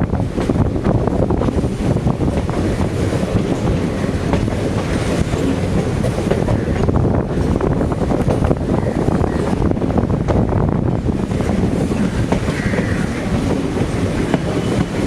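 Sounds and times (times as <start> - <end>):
train rumble: 0.0 - 15.0
wheels clattering on rails: 0.0 - 15.0.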